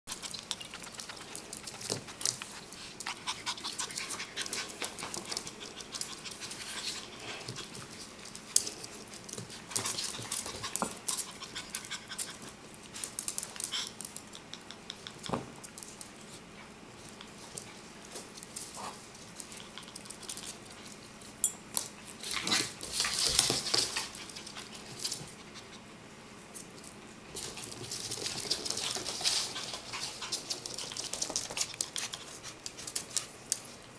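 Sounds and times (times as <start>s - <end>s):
paws pattering on wooden floor: 0.1s - 16.4s, 21.9s - 25.8s, 26.5s - 33.9s.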